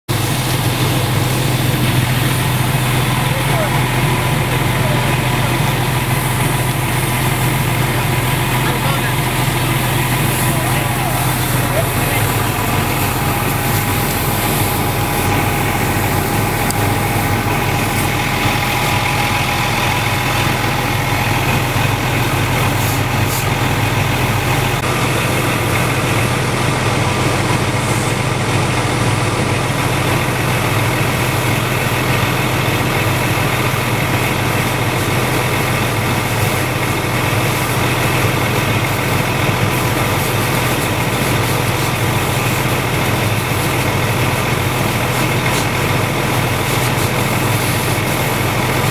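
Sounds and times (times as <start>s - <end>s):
fire engine idling: 0.1s - 48.9s.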